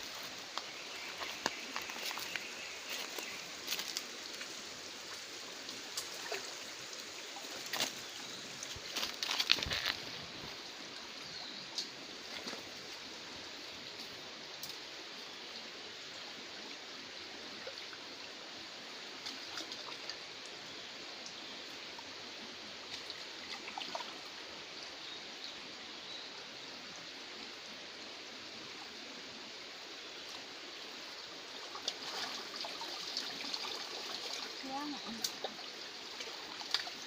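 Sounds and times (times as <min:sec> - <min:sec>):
river water running: 0:00.0 - 0:37.0.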